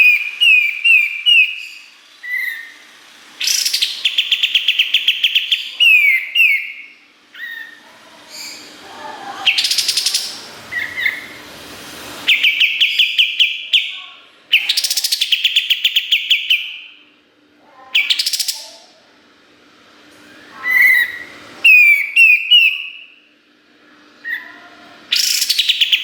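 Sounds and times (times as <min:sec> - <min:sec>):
bird trilling: 0:00.0 - 0:08.8, 0:09.4 - 0:11.4, 0:12.2 - 0:17.0, 0:17.9 - 0:18.9, 0:20.3 - 0:23.2, 0:24.2 - 0:26.0.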